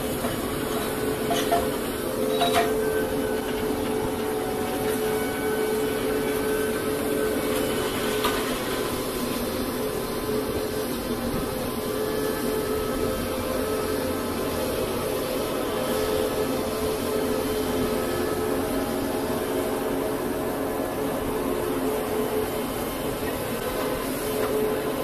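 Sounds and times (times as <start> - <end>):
heavy machinery droning: 0.0 - 25.0.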